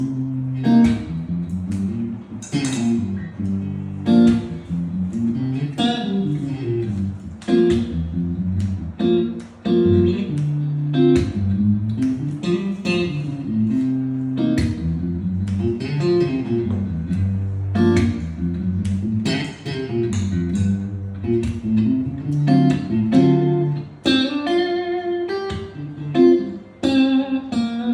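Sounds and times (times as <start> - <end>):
plucked guitar: 0.0 - 27.9.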